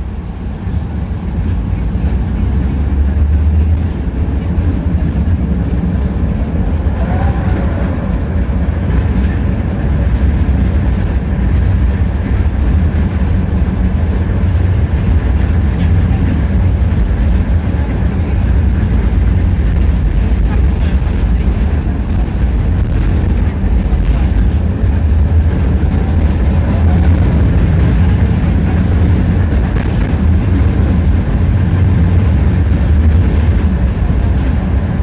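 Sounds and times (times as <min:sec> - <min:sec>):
tram wheels rumbling on rails: 0:00.0 - 0:35.0.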